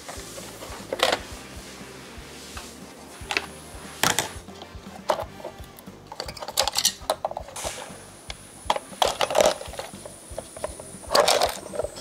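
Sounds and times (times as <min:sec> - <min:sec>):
plastic parts and tool clattering: 0:00.0 - 0:01.3, 0:03.2 - 0:12.0.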